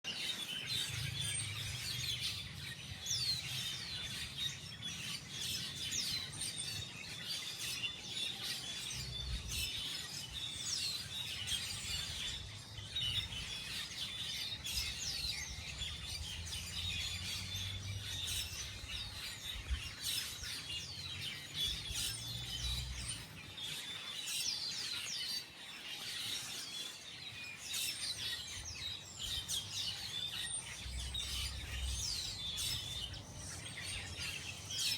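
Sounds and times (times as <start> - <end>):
many small birds chirping: 0.0 - 34.9.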